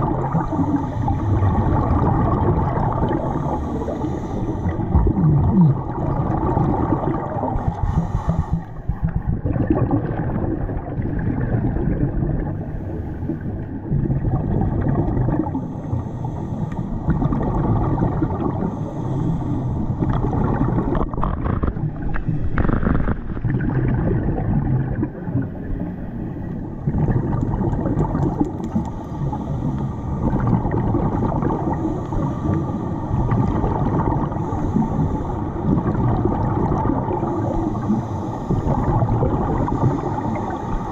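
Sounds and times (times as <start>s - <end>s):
regulator bubbles gurgling: 0.0s - 40.9s
steady low underwater rumble: 0.0s - 40.9s.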